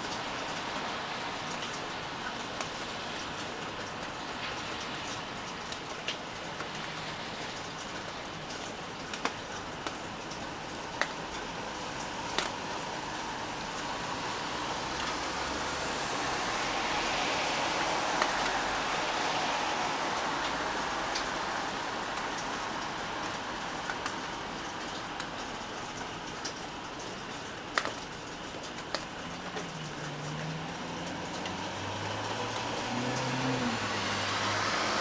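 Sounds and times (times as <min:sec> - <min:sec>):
raindrops tapping sharply: 0:00.0 - 0:35.0
steady rain falling: 0:00.0 - 0:35.0.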